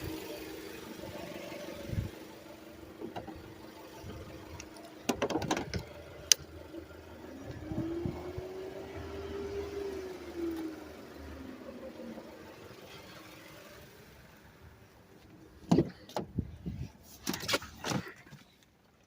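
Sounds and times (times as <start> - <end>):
car engine running: 0.0 - 17.1.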